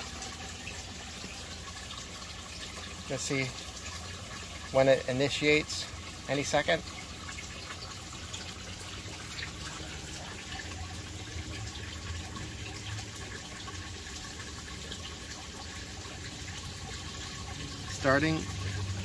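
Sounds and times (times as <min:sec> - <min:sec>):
water running through pipe: 0:00.0 - 0:19.0.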